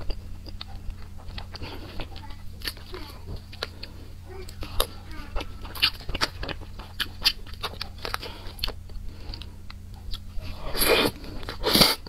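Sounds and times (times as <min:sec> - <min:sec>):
wet chewing and mouth smacks: 0:00.0 - 0:12.0.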